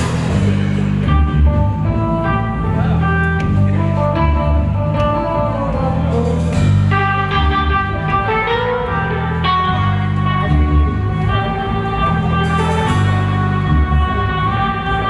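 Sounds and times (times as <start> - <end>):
electric guitar lines: 0.0 - 15.0
repeating bass line: 0.0 - 15.0.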